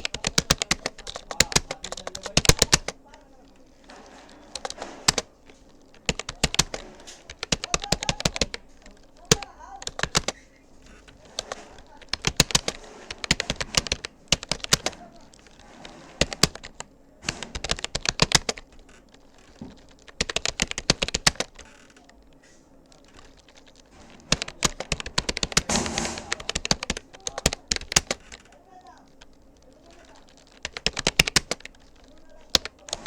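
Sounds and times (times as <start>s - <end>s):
computer keyboard typing: 0.0s - 33.0s.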